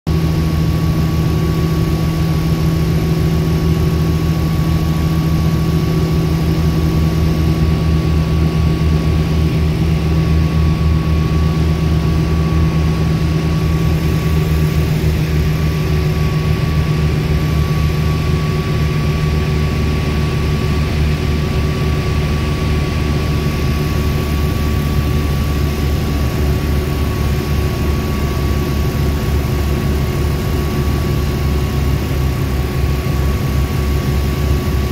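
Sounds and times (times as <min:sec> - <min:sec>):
propeller aircraft engine droning: 0:00.1 - 0:34.9
thin steady whine: 0:00.1 - 0:34.9.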